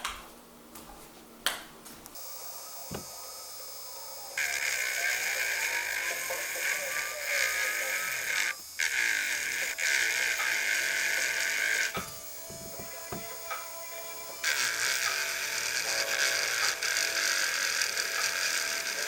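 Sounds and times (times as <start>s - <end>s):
small electric motor whirring: 2.2s - 19.0s.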